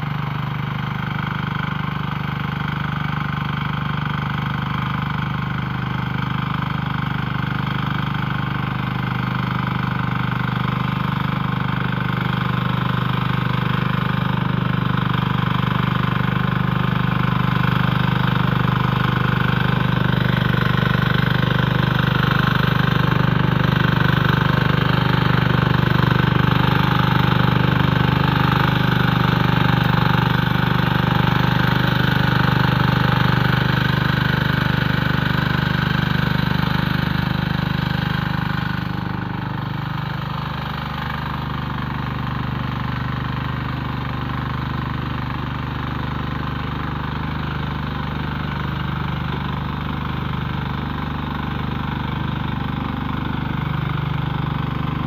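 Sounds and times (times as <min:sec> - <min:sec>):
power tiller engine running: 0:00.0 - 0:55.0.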